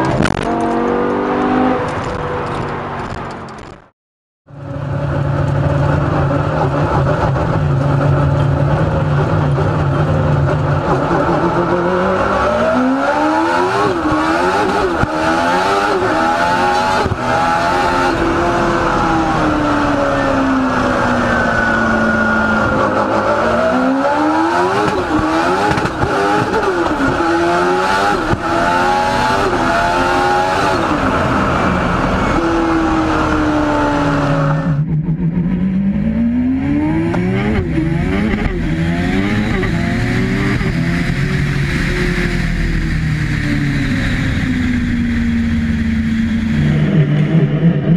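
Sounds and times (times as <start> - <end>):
car engine revving through gears: 0.0 - 3.7, 5.2 - 47.9.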